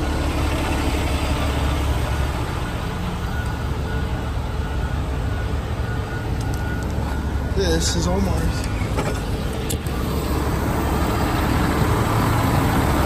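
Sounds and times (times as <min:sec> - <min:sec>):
freeway traffic noise: 0:00.0 - 0:13.0
low engine rumble: 0:00.0 - 0:13.0.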